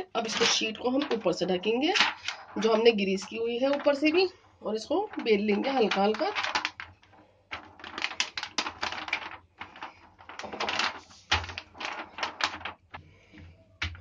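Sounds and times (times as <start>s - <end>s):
rolling pin crackling plastic sheet: 0.0s - 14.0s.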